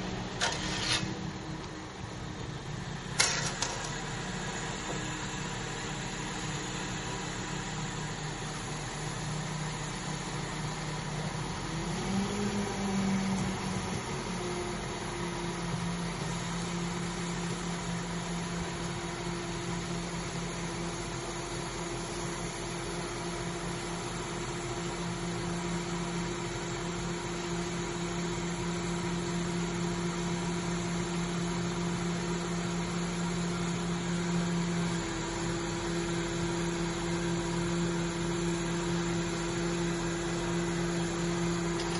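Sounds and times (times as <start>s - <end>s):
crane engine humming: 0.0s - 41.9s.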